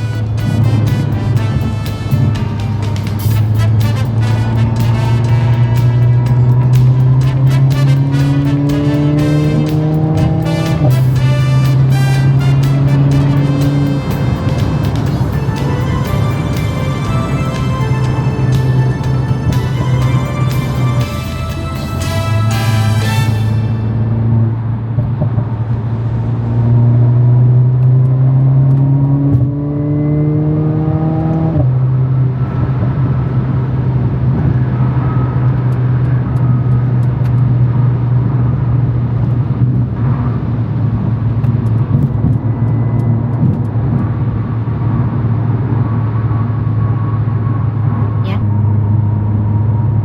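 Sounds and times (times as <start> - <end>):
car engine accelerating: 0.0 - 50.0
tyre and road noise: 0.0 - 50.0.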